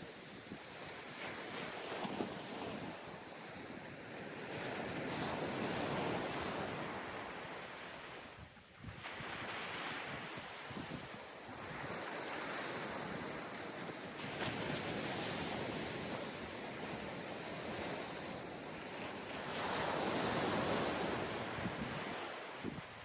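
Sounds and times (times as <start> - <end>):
wind on microphone: 0.0 - 23.0
surf washing onto sandy beach: 1.0 - 23.0.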